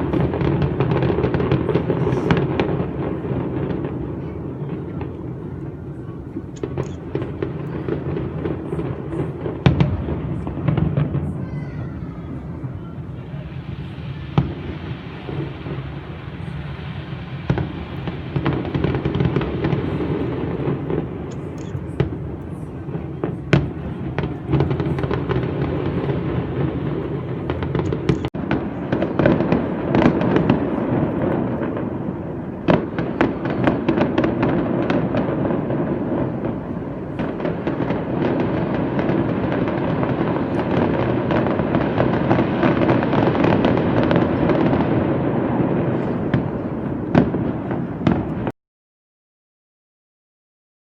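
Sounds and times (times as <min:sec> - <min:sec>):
fireworks bursting: 0:00.0 - 0:48.5.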